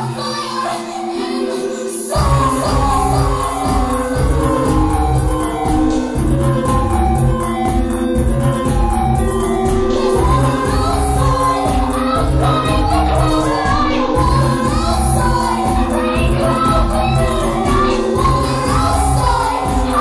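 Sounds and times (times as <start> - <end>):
person singing: 0.0 - 7.9, 9.8 - 20.0
live music with heavy bass: 2.2 - 20.0.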